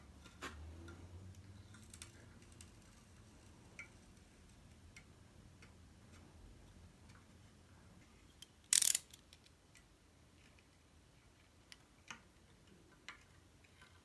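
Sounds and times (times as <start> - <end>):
faint small clicks and taps: 0.2 - 7.4, 8.0 - 14.0.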